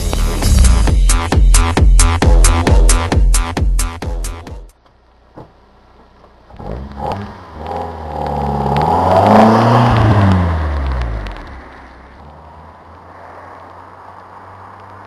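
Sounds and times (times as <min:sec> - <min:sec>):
car engine exhaust revving: 0:00.0 - 0:03.1, 0:05.1 - 0:15.0.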